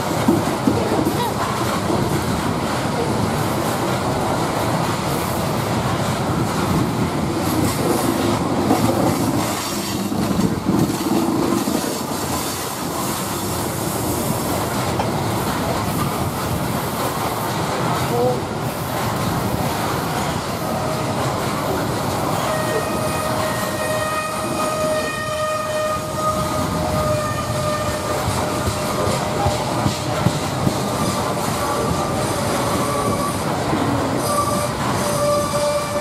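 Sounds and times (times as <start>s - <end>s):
freight train wheels on rails: 0.0s - 36.0s.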